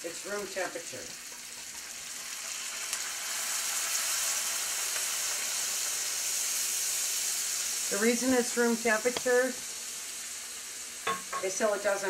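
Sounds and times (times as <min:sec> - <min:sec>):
beer sizzling in a hot skillet: 0:00.0 - 0:12.0.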